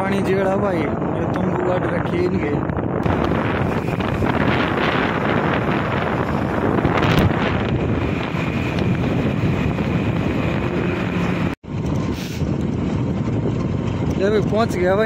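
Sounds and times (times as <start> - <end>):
road and engine noise: 0.0 - 15.0
wind rushing over microphone: 0.0 - 15.0.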